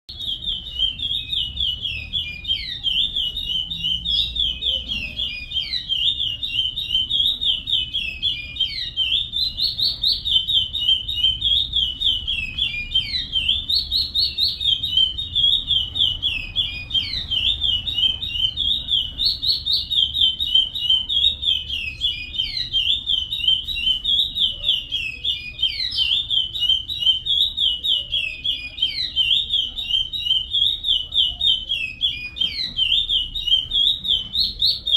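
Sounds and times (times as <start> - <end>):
finch singing whistled notes: 0.1 - 34.9.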